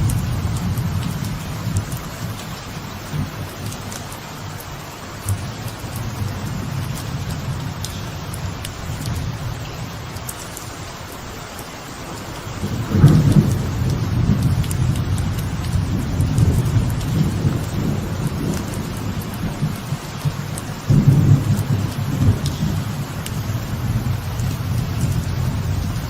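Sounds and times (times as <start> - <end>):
thunder rumbling: 0.0 - 3.8, 5.3 - 11.0, 12.0 - 26.0
light rain falling: 0.0 - 26.0.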